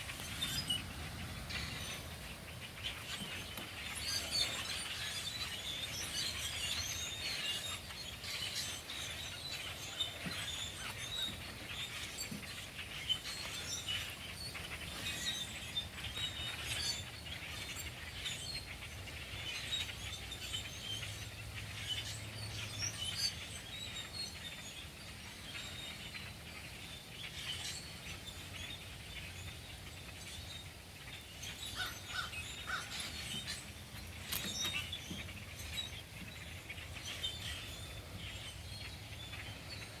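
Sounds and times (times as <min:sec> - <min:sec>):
flock of birds chirping: 0:00.0 - 0:40.0.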